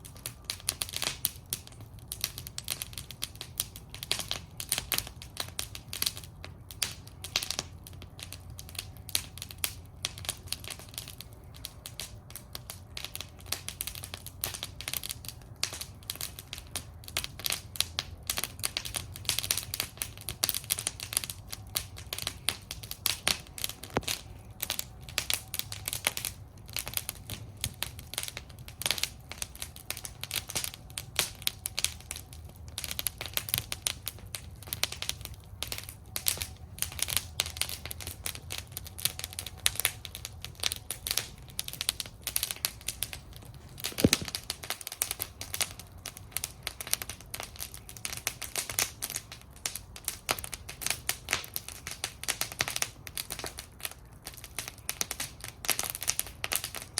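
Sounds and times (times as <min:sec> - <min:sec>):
campfire crackling and popping: 0:00.0 - 0:56.9
low rumble of flame: 0:00.0 - 0:56.9.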